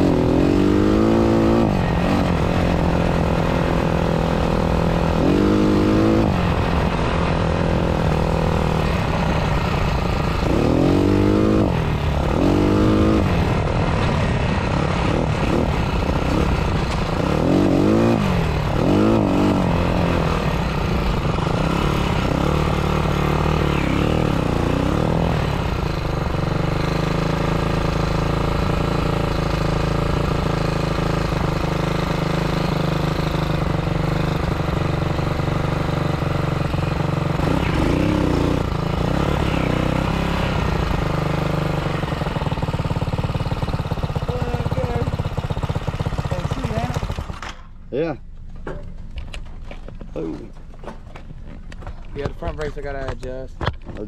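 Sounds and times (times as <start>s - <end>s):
motorcycle engine revving: 0.0s - 48.2s.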